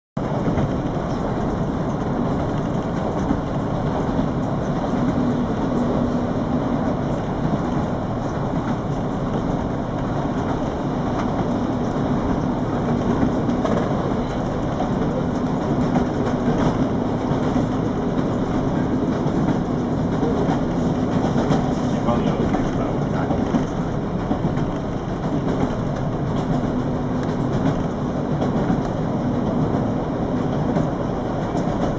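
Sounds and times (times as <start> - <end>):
train rumbling: 0.2 - 31.9.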